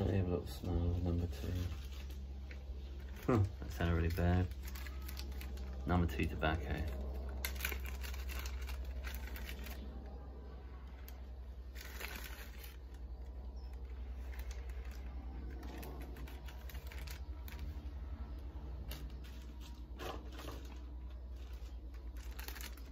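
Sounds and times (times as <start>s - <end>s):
steady low hum: 0.0s - 22.9s
plastic bag crinkling and clicking: 1.4s - 10.1s, 11.0s - 22.9s.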